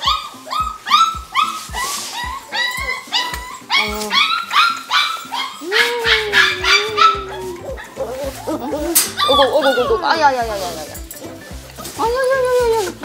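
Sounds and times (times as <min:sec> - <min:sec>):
background music with a beat: 0:00.0 - 0:13.0
small dogs yapping: 0:00.0 - 0:13.0.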